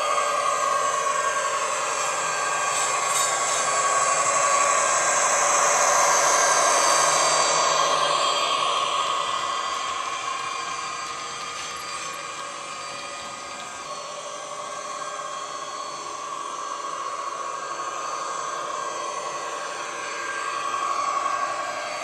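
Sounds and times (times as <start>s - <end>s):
model locomotive diesel engine hum: 0.0s - 22.0s.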